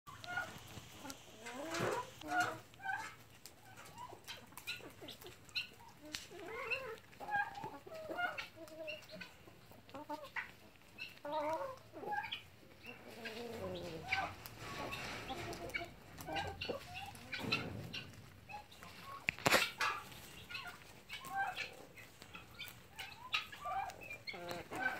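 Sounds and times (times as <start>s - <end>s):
chickens clucking: 0.1s - 24.9s.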